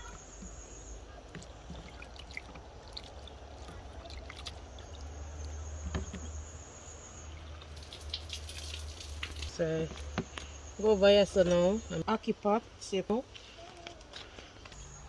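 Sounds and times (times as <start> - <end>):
insects droning: 0.0 - 13.0, 14.4 - 15.0.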